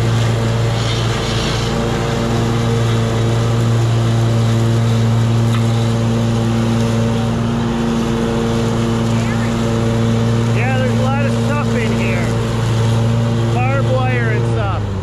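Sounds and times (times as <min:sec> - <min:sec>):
mower engine cutting grass: 0:00.0 - 0:15.0.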